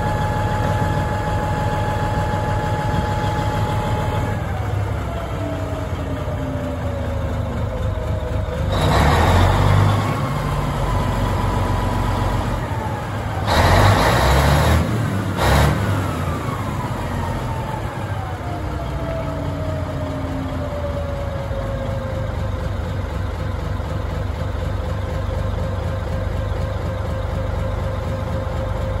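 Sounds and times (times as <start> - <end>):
bulldozer diesel engine running: 0.0 - 29.0
falling engine whine: 0.0 - 29.0.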